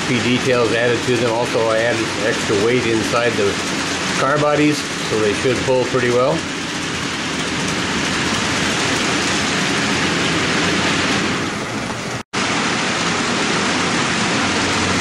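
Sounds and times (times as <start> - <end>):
model train rolling on track: 0.0 - 12.2.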